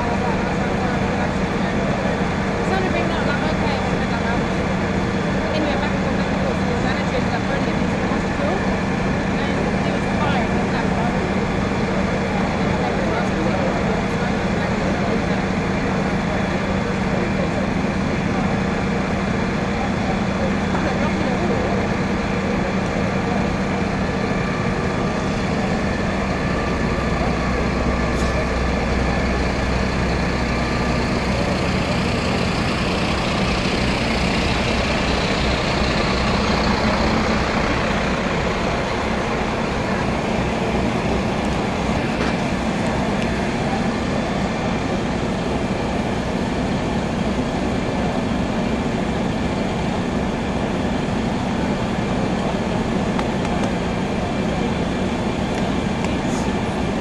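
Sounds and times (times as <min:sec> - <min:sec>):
diesel engine idling: 0:00.0 - 0:57.0
murmur of voices: 0:00.0 - 0:57.0.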